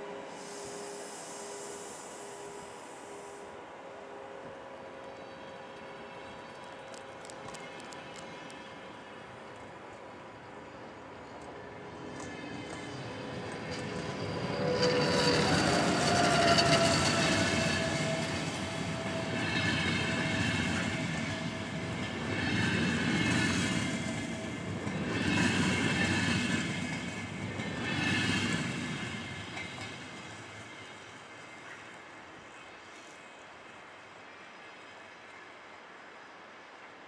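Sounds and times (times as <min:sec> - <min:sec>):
train coaches rumbling past: 0:00.0 - 0:35.8.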